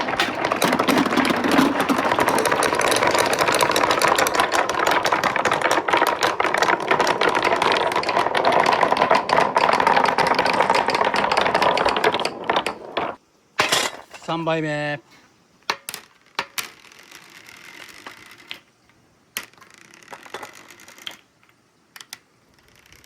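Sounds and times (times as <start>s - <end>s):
marbles rattling down metal track: 0.0s - 14.4s, 15.7s - 18.8s, 19.4s - 21.3s.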